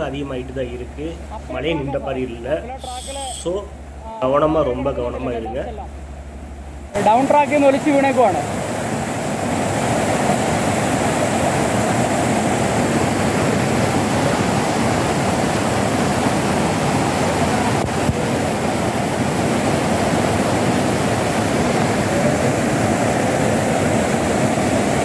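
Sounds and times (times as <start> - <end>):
floodwater rushing torrent: 0.0 - 25.0.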